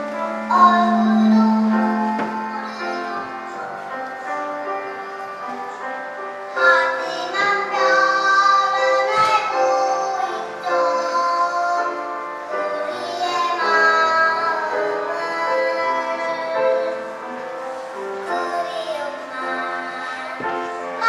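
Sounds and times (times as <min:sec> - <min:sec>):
children's choir singing: 0:00.0 - 0:21.0
instrumental accompaniment: 0:00.0 - 0:21.0.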